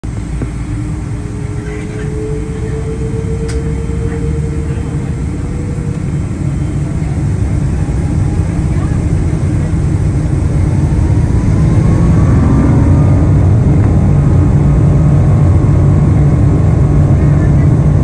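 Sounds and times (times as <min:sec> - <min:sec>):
faint engine whine: 0:00.0 - 0:18.0
jet engines rumbling: 0:00.0 - 0:18.0.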